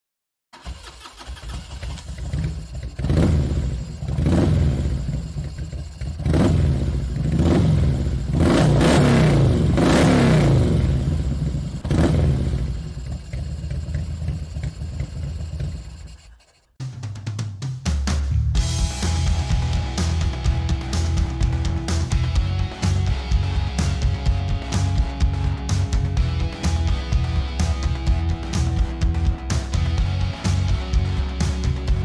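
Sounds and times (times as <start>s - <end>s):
motorcycle engine revving: 0.6s - 16.8s, 18.6s - 32.0s.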